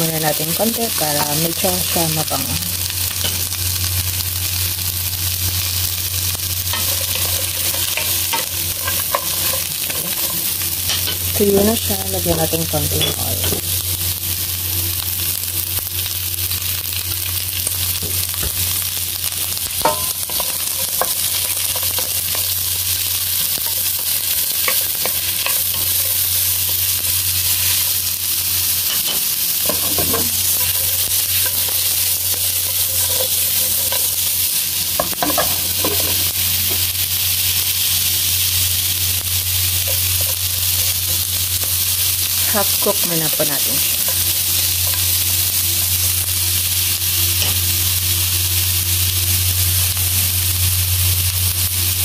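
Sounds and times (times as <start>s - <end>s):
onions sizzling in oil: 0.0s - 52.0s.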